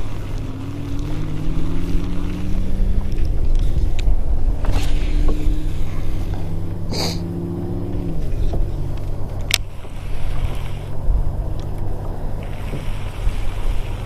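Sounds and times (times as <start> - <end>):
water around kayak: 0.0 - 14.0
wind on microphone: 0.0 - 14.0.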